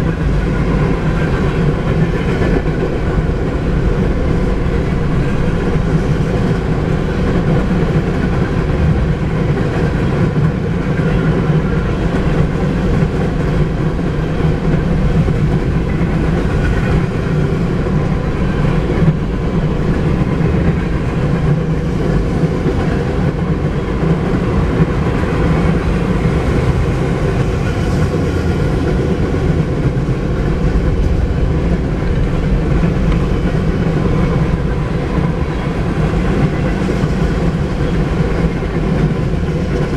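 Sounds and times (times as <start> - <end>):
freight train wheels rumbling on rail: 0.0 - 39.9.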